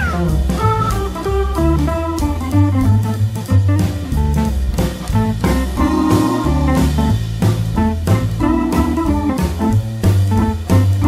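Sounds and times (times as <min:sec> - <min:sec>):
guitar and drum beat music: 0:00.0 - 0:11.0
low bass line: 0:00.0 - 0:11.0.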